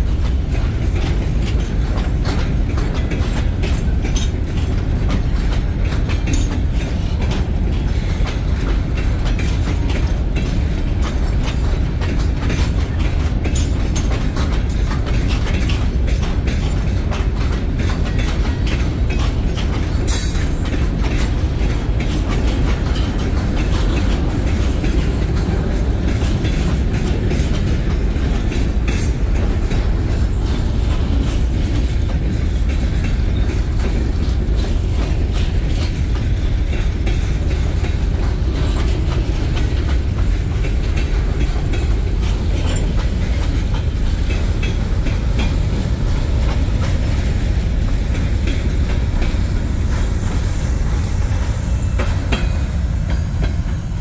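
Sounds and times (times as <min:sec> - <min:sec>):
train wheels rumbling: 0:00.0 - 0:54.0
wheels clicking on rail: 0:00.0 - 0:54.0.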